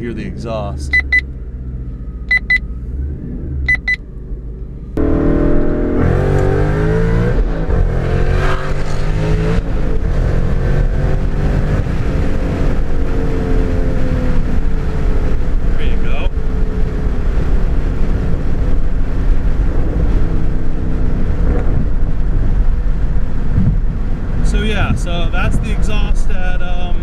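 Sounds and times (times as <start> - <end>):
car engine revving under acceleration: 0.0 - 26.8.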